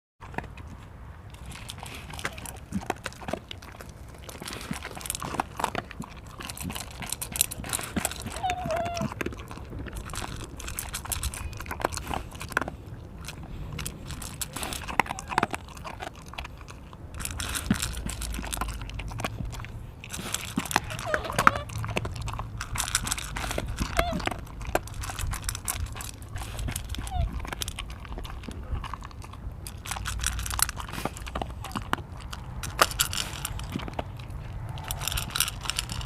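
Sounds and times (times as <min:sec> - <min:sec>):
dog crunching food: 0:00.2 - 0:36.0.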